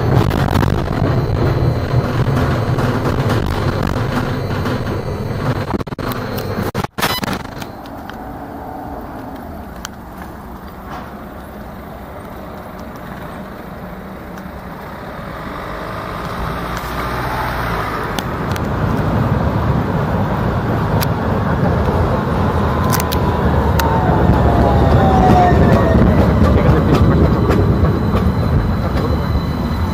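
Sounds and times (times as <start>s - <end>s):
road traffic: 0.0s - 29.9s
tram rumbling: 0.0s - 29.9s
tram whine falling in pitch: 0.0s - 29.9s.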